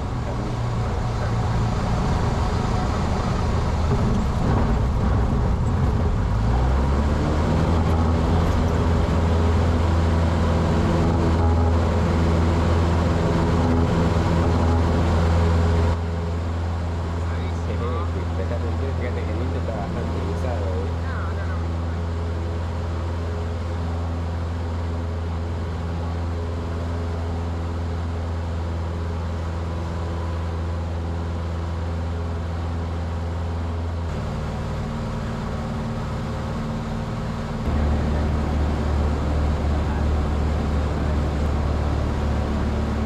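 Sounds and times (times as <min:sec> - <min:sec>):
airplane engine and propeller: 0:00.0 - 0:43.0.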